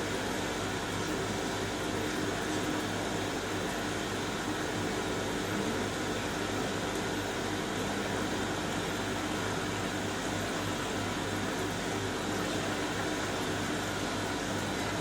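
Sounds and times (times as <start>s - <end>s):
washing machine drum whirring: 0.0s - 15.0s.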